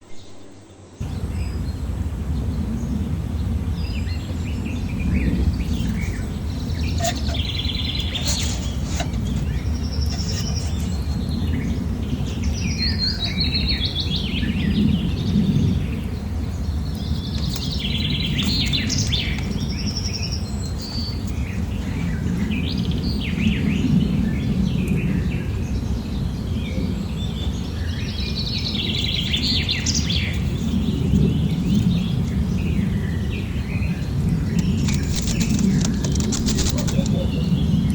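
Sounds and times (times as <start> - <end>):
birds chirping: 0.0 - 37.9
low background rumble: 0.2 - 37.9.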